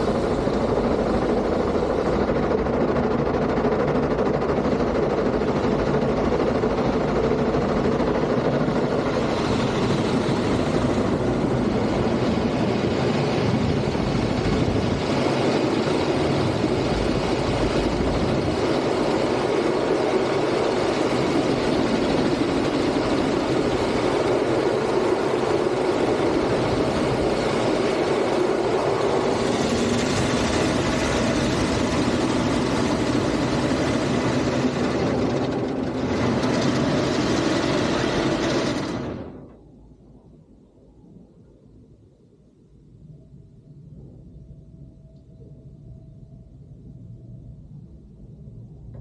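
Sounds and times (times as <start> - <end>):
car wash machinery running: 0.0 - 39.6.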